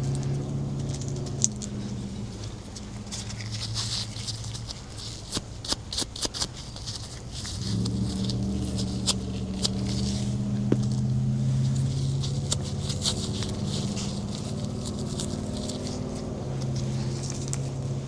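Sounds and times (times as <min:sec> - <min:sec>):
scratchy rustling: 0:00.0 - 0:18.0.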